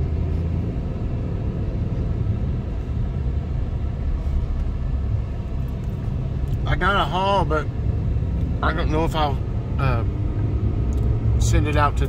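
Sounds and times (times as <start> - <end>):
car engine rumble: 0.0 - 12.0
tyre road noise: 0.0 - 12.0.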